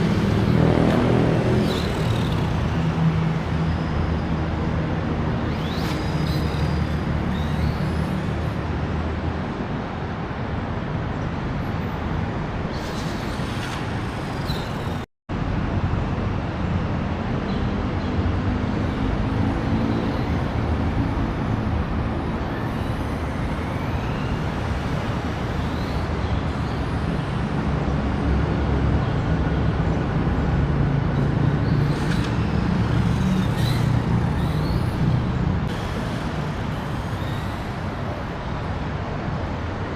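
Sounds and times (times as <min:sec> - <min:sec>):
heavy vehicle engines rumbling: 0:00.0 - 0:39.9
road traffic noise: 0:00.0 - 0:39.9.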